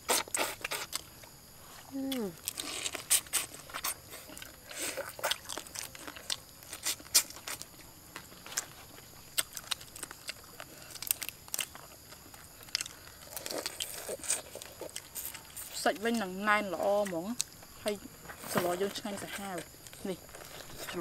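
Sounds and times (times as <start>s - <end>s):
crunching and chewing shrimp: 0.0s - 21.0s.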